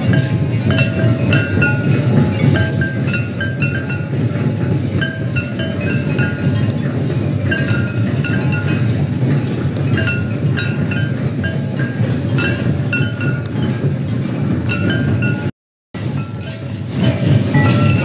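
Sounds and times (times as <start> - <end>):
hand drums playing rhythm: 0.0 - 15.4.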